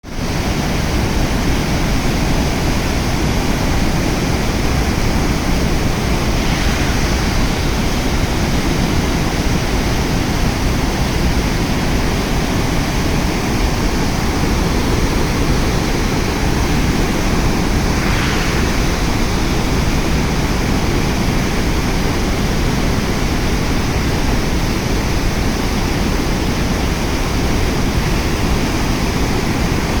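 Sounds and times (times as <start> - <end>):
floodwater rushing: 0.2 - 29.9.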